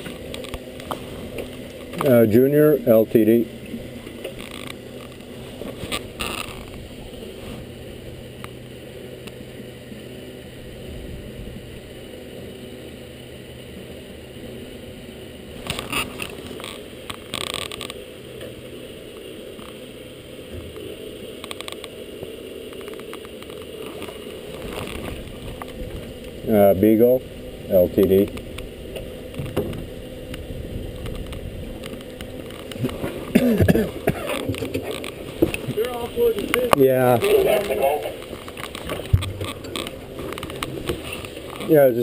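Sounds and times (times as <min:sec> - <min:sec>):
muffled boat motor humming: 0:00.0 - 0:42.0.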